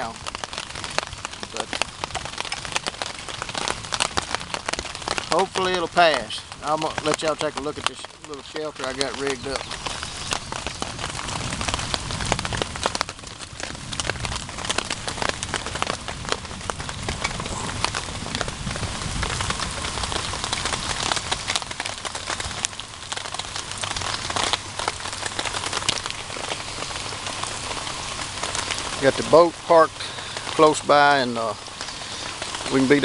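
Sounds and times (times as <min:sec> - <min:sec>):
heavy rain on a tarp: 0:00.0 - 0:33.0.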